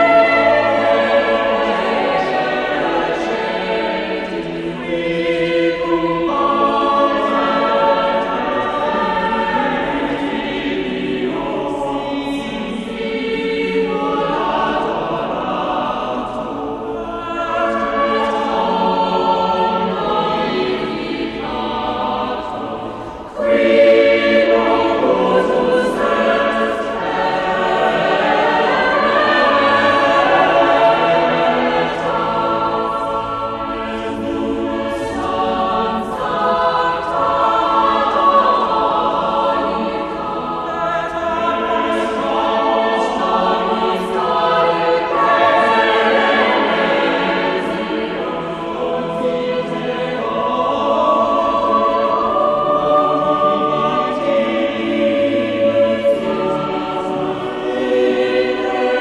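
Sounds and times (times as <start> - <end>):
choir singing held chords: 0.0 - 59.0.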